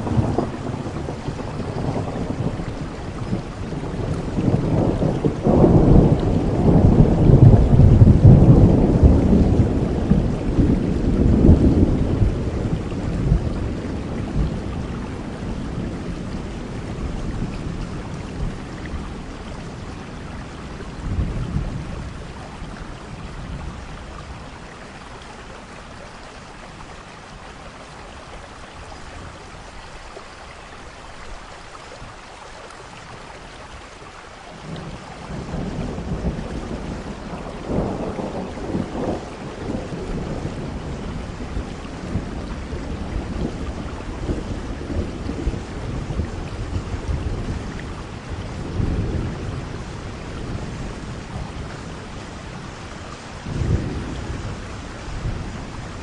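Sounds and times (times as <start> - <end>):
thunder rumbling: 0.0 - 24.6, 34.6 - 56.0
steady rain: 0.0 - 56.0.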